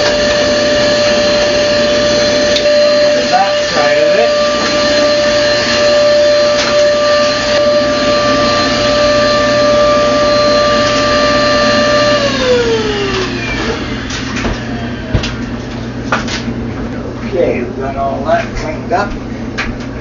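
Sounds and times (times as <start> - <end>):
handheld vacuum cleaner whine: 0.0 - 16.4.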